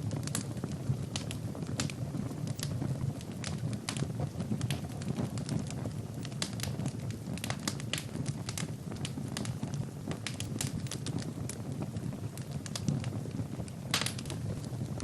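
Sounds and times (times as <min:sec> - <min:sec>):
low rush of flame: 0:00.0 - 0:15.0
wood fire crackling and popping: 0:00.0 - 0:15.0.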